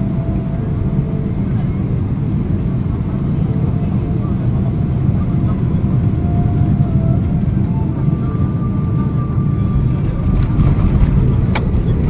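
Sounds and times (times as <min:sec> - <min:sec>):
airplane cabin rumble: 0:00.0 - 0:12.0
faint steady whine: 0:00.0 - 0:12.0.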